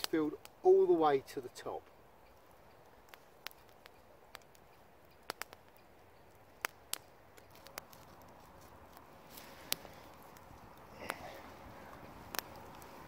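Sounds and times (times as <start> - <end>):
embers popping and crackling: 0.0 - 13.0
stick raking embers: 0.0 - 13.0.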